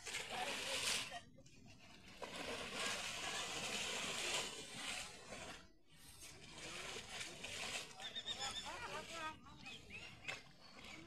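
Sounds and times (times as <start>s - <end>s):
water splashing and churning: 0.0s - 11.0s.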